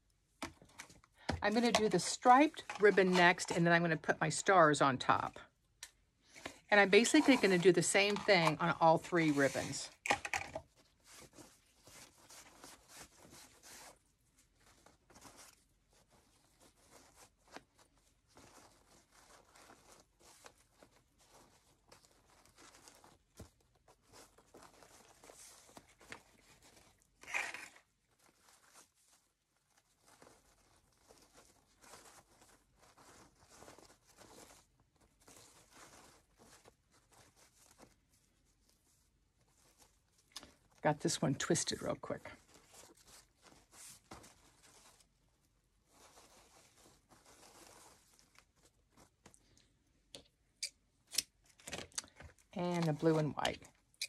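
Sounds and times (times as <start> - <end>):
wired ribbon rustling and crinkling: 0.0 - 54.0.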